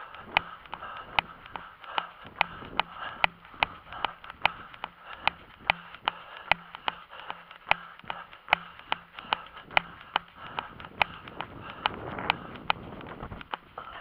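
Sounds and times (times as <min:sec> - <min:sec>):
running footsteps on asphalt: 0:00.0 - 0:14.0.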